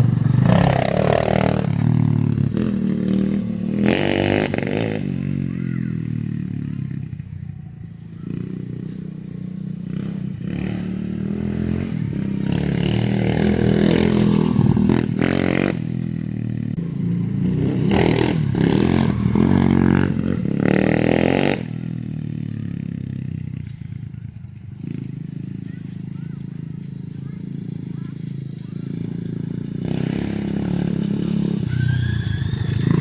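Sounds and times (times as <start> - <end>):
mini bike engine revving: 0.0 - 33.0.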